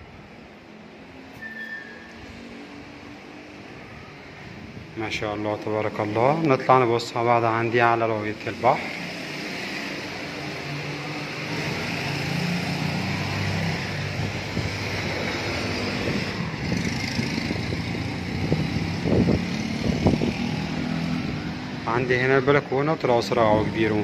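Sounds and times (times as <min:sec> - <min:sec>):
traffic noise: 0:00.0 - 0:24.0.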